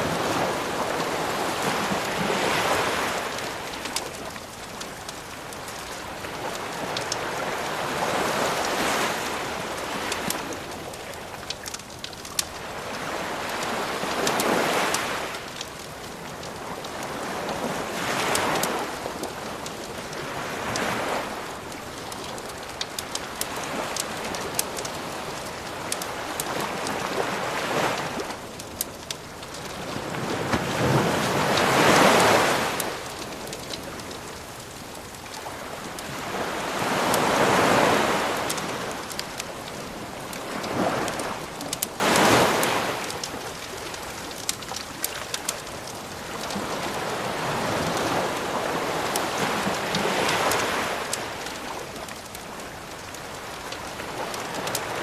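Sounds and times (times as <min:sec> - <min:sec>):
waves washing in: 0:00.0 - 0:04.5, 0:05.2 - 0:11.4, 0:12.5 - 0:15.6, 0:16.4 - 0:55.0
wood fire crackling: 0:00.0 - 0:55.0.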